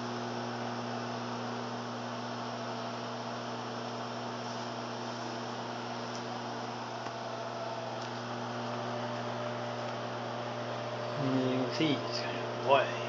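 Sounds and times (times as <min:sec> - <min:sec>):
fan hiss: 0:00.0 - 0:13.0
microwave oven humming: 0:00.0 - 0:13.0.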